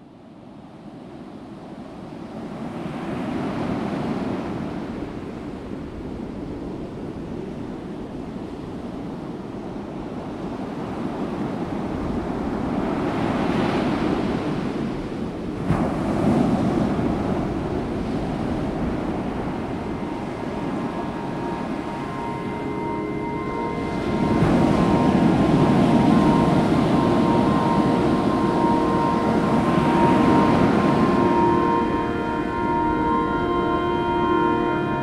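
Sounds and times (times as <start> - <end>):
ocean surf: 0.0 - 35.0
wind: 0.0 - 35.0.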